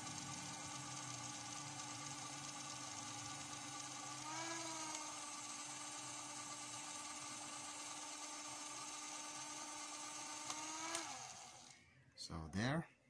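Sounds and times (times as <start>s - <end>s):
disc repair machine motor whirring: 0.0s - 11.8s.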